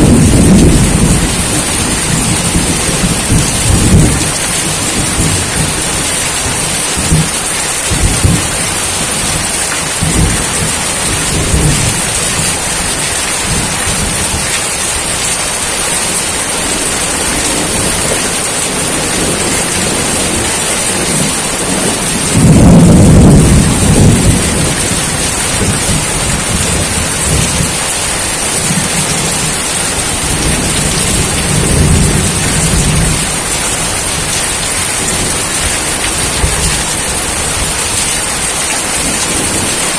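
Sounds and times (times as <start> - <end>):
heavy rain hissing: 0.0 - 39.9
thunder rumbling: 0.0 - 39.9.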